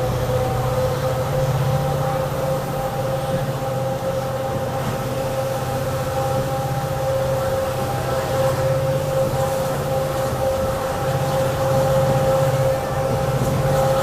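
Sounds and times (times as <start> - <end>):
diesel locomotive engine throb: 0.0 - 14.0
engine whine: 0.0 - 14.0.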